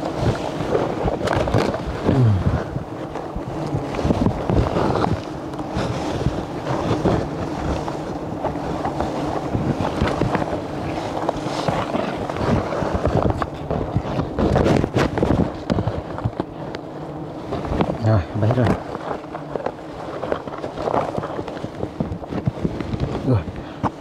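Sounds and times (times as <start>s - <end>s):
honeybees buzzing: 0.0s - 24.0s
rustling of brush and branches: 0.0s - 24.0s
wind on microphone: 0.0s - 24.0s.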